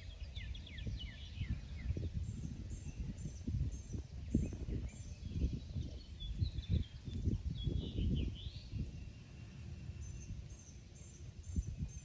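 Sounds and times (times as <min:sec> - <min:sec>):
low rumble on microphone: 0:00.0 - 0:12.0.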